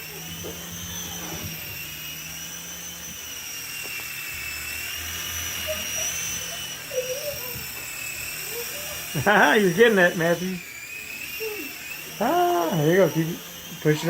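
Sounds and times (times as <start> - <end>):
toy helicopter motor whining: 0.0 - 14.0.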